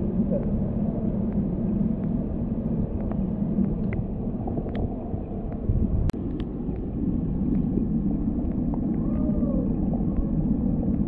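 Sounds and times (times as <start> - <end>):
muffled underwater water rumble: 0.0 - 11.0.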